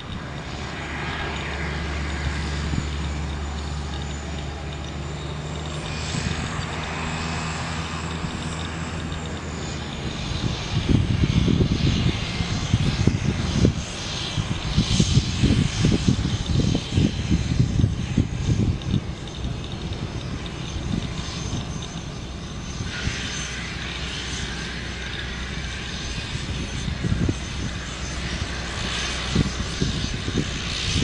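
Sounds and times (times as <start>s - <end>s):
turboprop engine droning: 0.0s - 31.0s
wind buffeting microphone: 0.0s - 31.0s.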